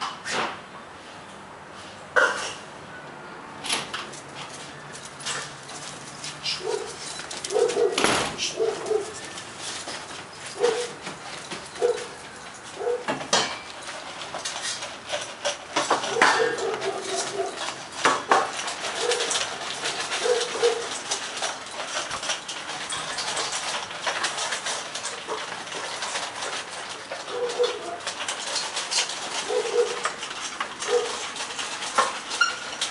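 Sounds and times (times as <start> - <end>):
dogs crunching food: 4.0 - 32.9
metal bowls clattering: 4.1 - 32.9.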